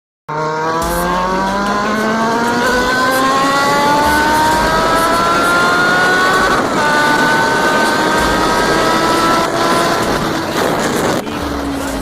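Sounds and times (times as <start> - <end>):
motorcycle engine accelerating: 0.3 - 12.0.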